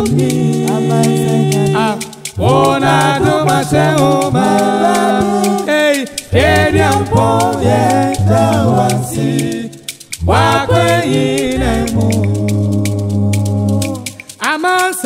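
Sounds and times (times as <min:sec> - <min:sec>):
gourd shaker beat: 0:00.0 - 0:15.0
male group singing in harmony: 0:00.0 - 0:15.0.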